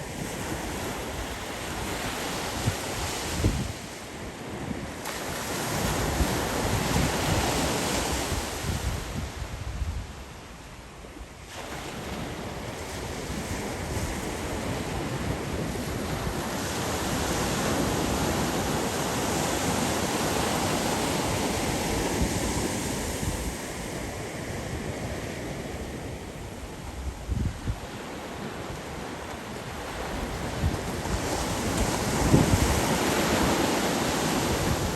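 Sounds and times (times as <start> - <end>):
wind buffeting microphone: 0.0 - 3.9, 4.8 - 10.7, 12.0 - 34.9
waves breaking on beach: 0.0 - 34.9.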